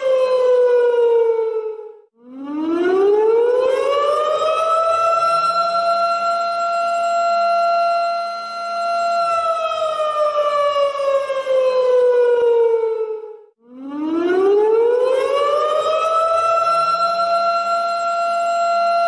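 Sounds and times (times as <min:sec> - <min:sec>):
warning siren wailing: 0:00.0 - 0:19.0.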